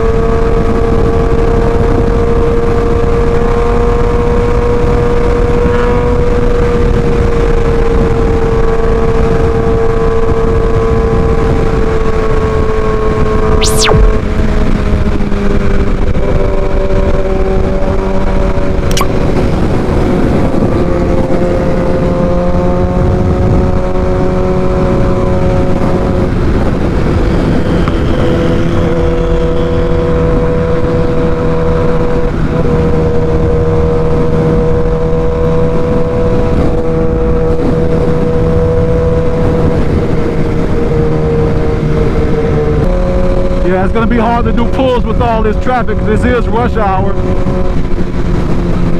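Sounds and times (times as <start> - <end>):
motorcycle engine cruising: 0.0 - 48.9
wind rush on microphone: 0.0 - 48.9.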